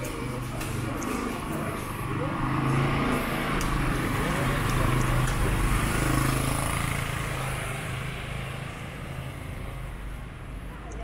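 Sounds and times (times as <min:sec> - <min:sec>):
vehicle engine passing: 0:00.0 - 0:10.7.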